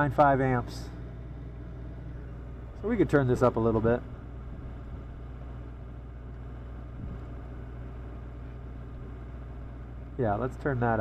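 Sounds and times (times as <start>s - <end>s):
generator engine humming: 0.0s - 11.0s.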